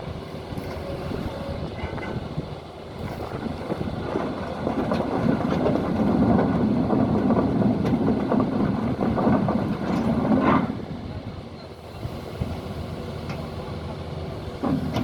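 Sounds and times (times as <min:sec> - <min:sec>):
excavator diesel engine: 0:00.0 - 0:15.0
metallic clanks of steel tracks: 0:00.0 - 0:15.0.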